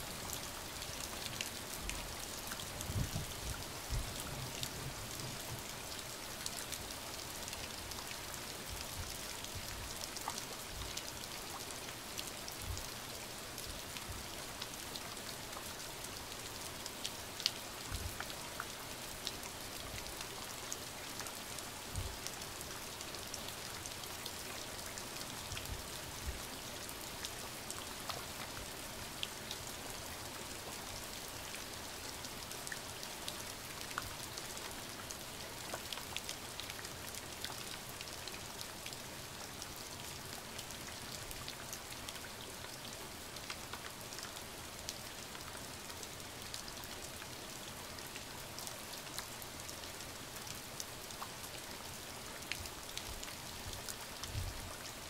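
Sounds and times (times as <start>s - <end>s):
raindrops ticking on a surface: 0.0s - 55.0s
steady rain hiss: 0.0s - 55.0s.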